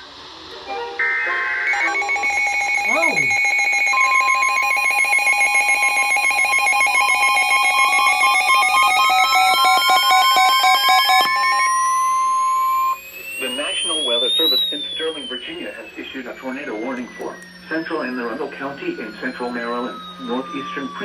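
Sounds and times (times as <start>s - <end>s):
steady alarm tone: 1.6s - 21.0s
pulsing two-tone warble: 1.7s - 21.0s.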